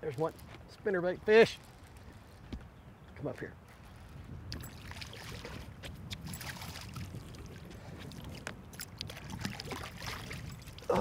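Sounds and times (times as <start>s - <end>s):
low rumble of wind and water: 0.0s - 11.0s.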